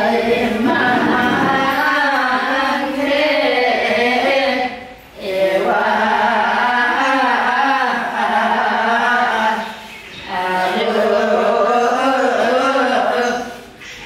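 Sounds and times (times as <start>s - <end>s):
voices singing held notes: 0.0s - 14.0s.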